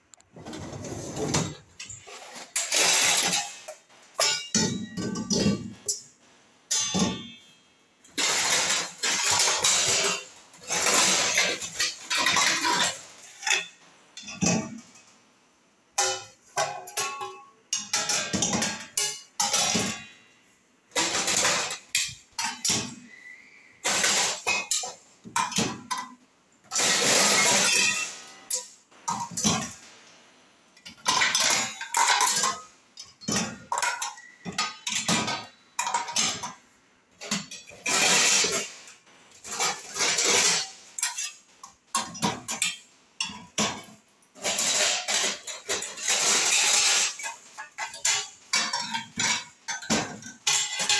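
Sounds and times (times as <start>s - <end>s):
dishes clanking into dishwasher racks: 0.4s - 6.1s, 6.7s - 15.1s, 16.0s - 29.9s, 30.8s - 50.9s.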